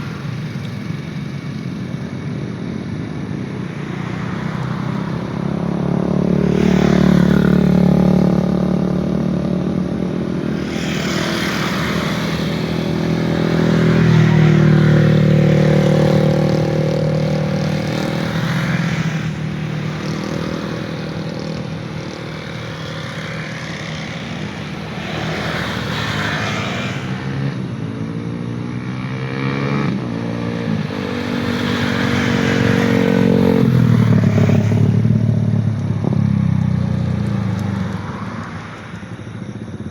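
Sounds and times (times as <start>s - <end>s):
vehicle engines passing by: 0.0s - 39.9s.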